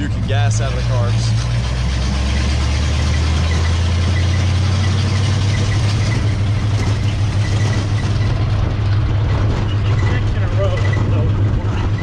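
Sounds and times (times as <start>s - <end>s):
car engine droning: 0.0s - 12.0s
road rumble: 0.0s - 12.0s.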